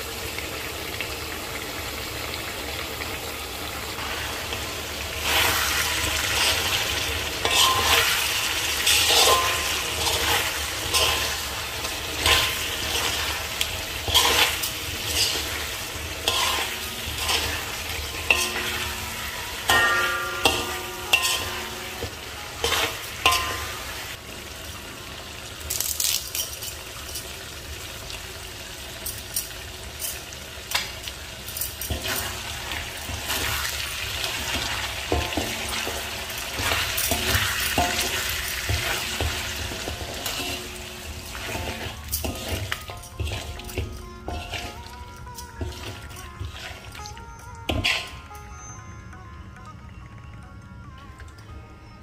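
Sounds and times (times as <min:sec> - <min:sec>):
meat sizzling in a wok: 0:00.0 - 0:47.1.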